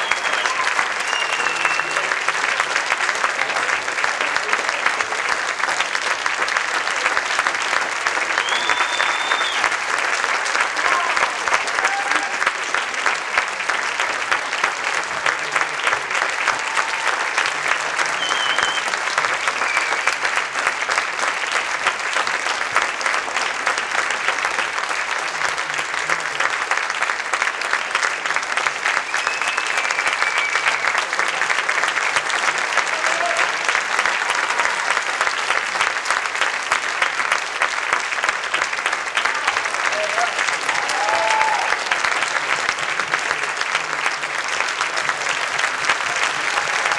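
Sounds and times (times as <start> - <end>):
audience applauding: 0.0 - 46.9.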